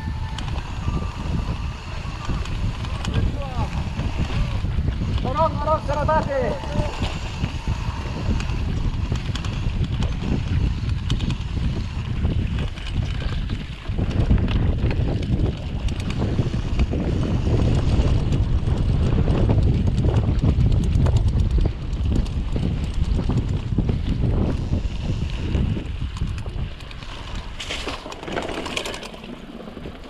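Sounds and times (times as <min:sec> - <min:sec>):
bike clicking and rattling: 0:00.0 - 0:30.0
wind buffeting microphone: 0:00.0 - 0:30.0.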